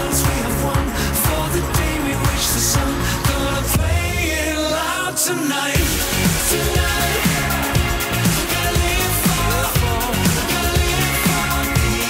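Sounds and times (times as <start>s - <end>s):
pop background music: 0.0s - 12.0s.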